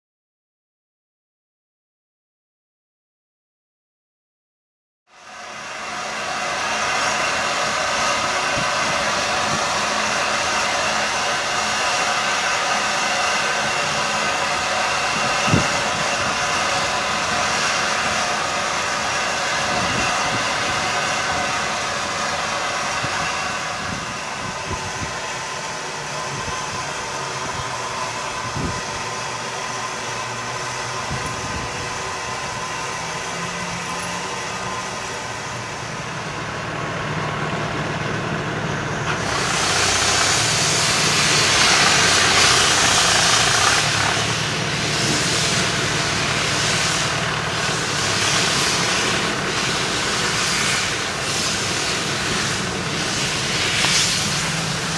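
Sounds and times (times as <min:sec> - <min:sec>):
steam hissing: 0:05.2 - 0:37.6, 0:38.9 - 0:54.9.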